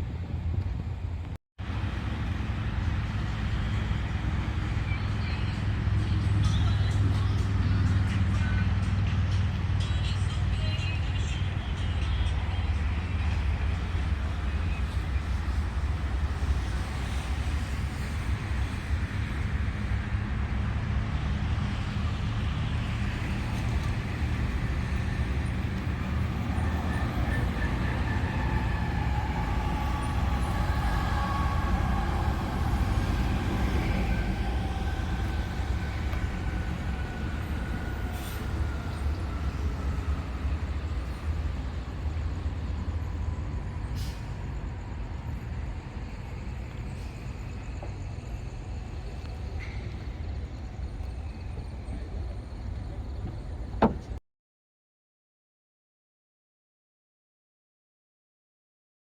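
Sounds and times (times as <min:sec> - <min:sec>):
road traffic passing: 0:00.0 - 0:54.2.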